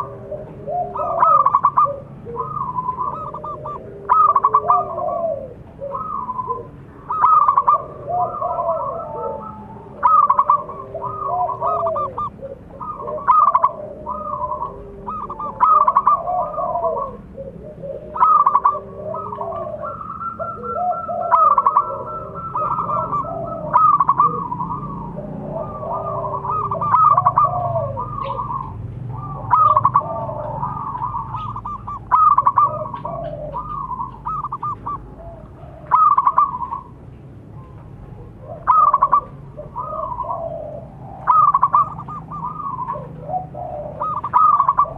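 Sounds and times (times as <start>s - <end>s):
doves cooing: 0.0s - 44.9s.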